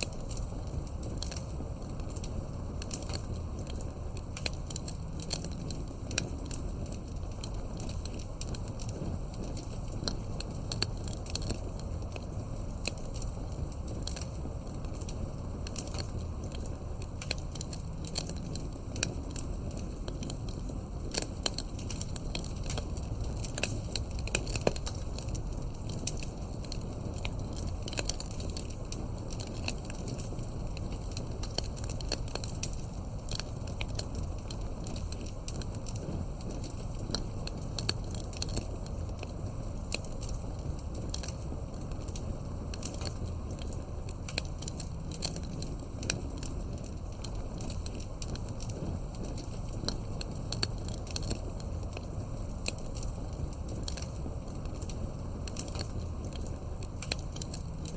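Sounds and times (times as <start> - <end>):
campfire rumble: 0.0 - 57.9
wood crackling and popping: 0.0 - 57.9.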